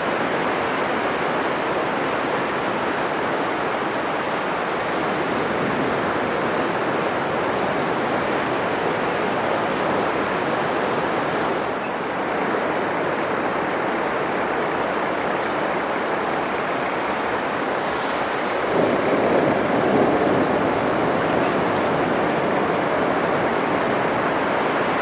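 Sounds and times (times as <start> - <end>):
surf waves breaking on beach: 0.0 - 25.0.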